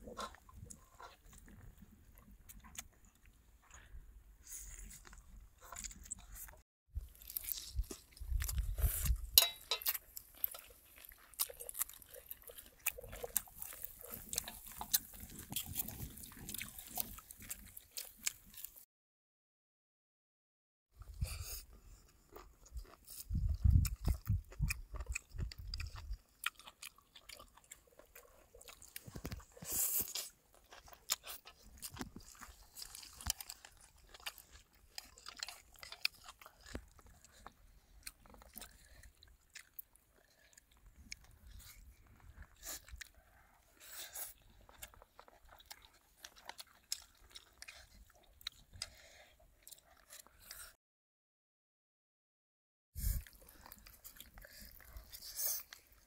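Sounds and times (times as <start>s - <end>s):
person chewing and crunching: 0.0s - 18.9s, 21.1s - 50.8s, 53.0s - 56.0s.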